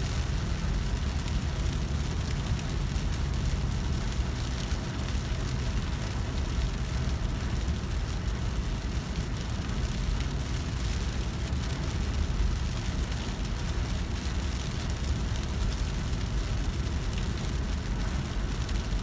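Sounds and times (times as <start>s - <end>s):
rain hissing on windshield: 0.0s - 19.0s
road and tyre rumble: 0.0s - 19.0s.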